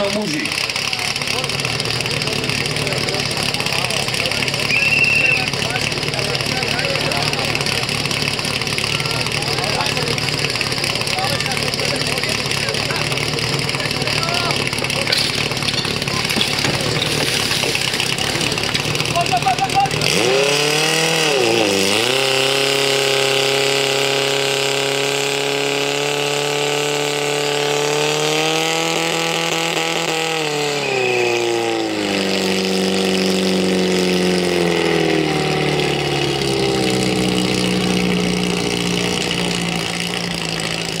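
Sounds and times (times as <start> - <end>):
fire pump engine running: 0.0 - 41.0.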